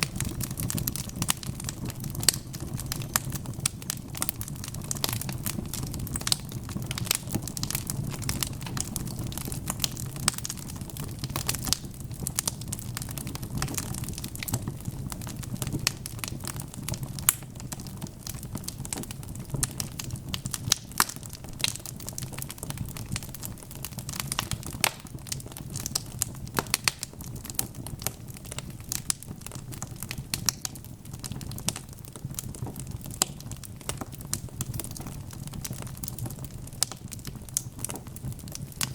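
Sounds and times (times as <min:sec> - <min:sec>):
fire crackles and pops: 0:00.0 - 0:38.9
low rumble of flames: 0:00.0 - 0:38.9.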